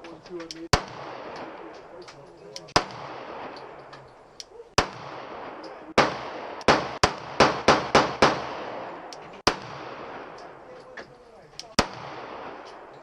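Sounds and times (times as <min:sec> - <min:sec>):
echoing gunshots: 0:00.6 - 0:13.0.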